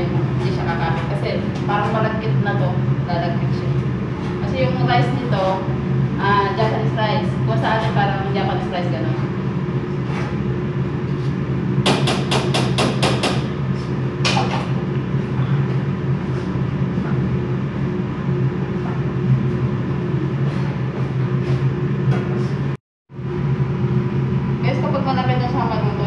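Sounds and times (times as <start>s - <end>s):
range hood fan humming: 0.0s - 26.0s.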